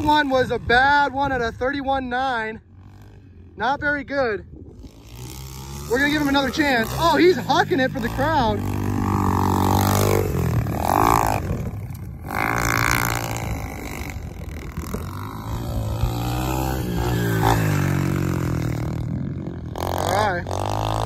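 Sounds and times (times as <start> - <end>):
motorbike engine revving: 0.0 - 1.7, 2.6 - 3.8, 4.7 - 21.0.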